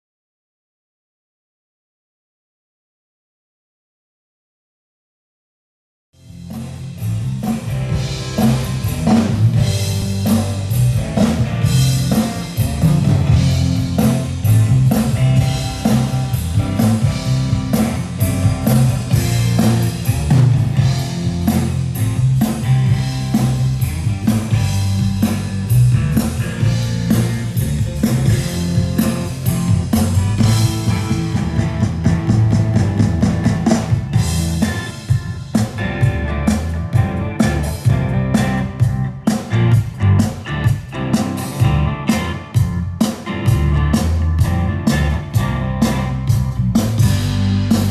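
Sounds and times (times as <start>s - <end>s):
rock band playing: 6.2s - 47.9s.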